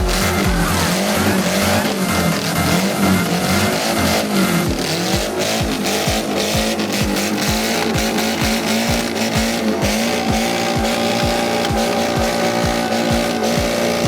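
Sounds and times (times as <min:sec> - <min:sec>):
electronic dance track: 0:00.0 - 0:14.0
engine noise: 0:00.0 - 0:14.0.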